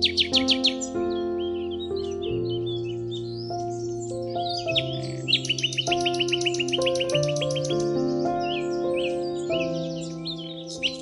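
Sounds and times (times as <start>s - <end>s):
ambient music with held notes: 0.0s - 11.0s
small birds chirping: 0.0s - 11.0s.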